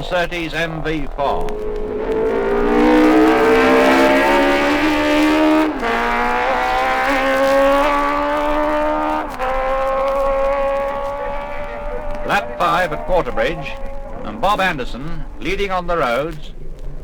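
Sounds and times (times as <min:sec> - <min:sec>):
motorcycle engine at full throttle: 0:00.0 - 0:15.4.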